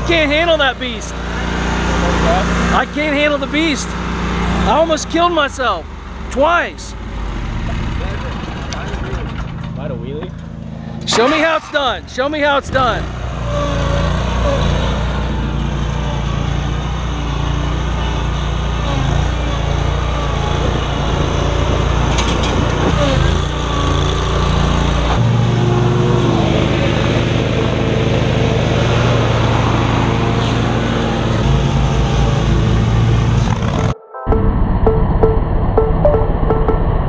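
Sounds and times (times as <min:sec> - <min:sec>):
mower engine running: 0:00.0 - 0:34.0.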